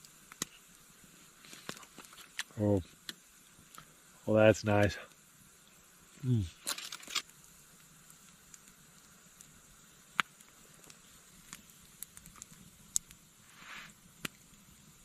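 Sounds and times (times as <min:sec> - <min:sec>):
campfire crackling and popping: 0:00.0 - 0:15.0
low steady fire hiss: 0:00.0 - 0:15.0.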